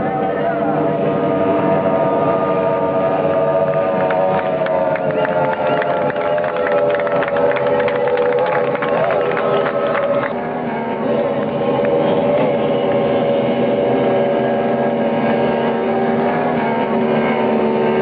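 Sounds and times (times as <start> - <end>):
boat engines running hard: 0.0 - 18.0.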